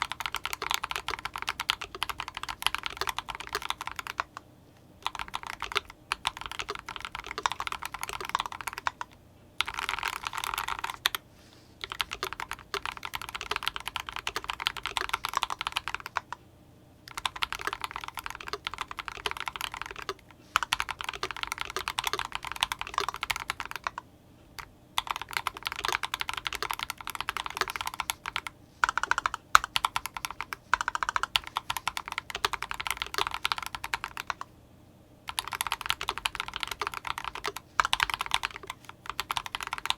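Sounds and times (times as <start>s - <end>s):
fast typing on mechanical keyboard: 0.0s - 4.4s, 5.0s - 11.2s, 11.8s - 16.4s, 17.1s - 24.0s, 24.6s - 34.5s, 35.3s - 39.9s.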